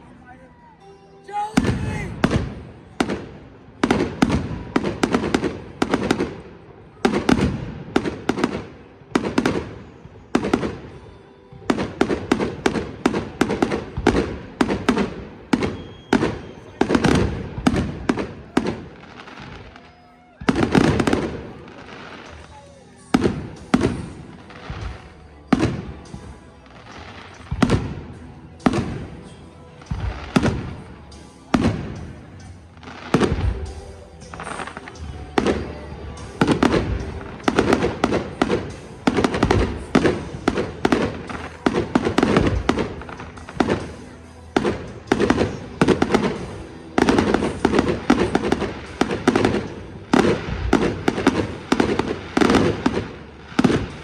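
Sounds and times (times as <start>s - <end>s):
fireworks bursting: 1.2s - 54.0s.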